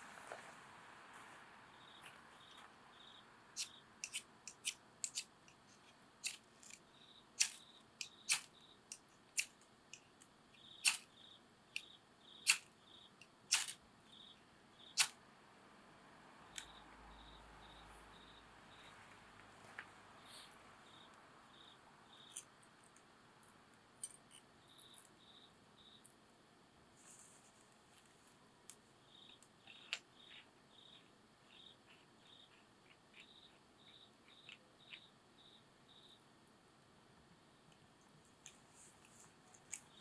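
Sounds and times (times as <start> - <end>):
insect chirping: 1.7 - 15.3, 16.4 - 19.4, 20.2 - 27.5, 28.7 - 40.0.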